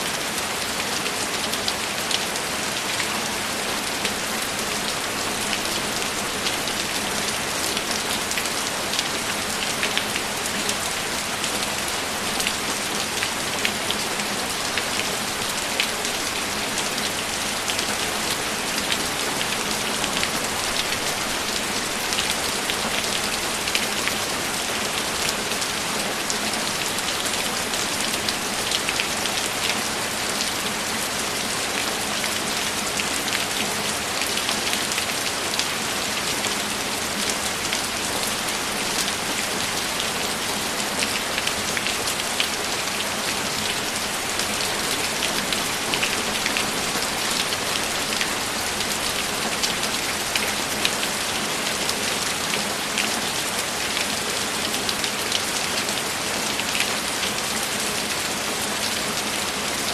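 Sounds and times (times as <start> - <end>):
steady rain with ticking drops: 0.0 - 59.9.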